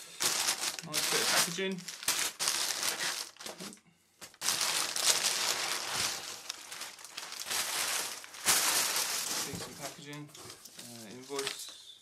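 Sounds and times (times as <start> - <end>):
packing paper crinkling: 0.0 - 12.0.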